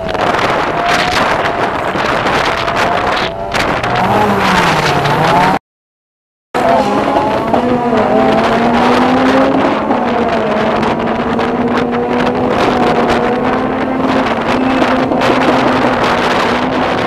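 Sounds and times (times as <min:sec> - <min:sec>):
drag cars accelerating: 0:00.0 - 0:05.6, 0:06.6 - 0:17.0
wind buffeting microphone: 0:00.0 - 0:05.6, 0:06.6 - 0:17.0.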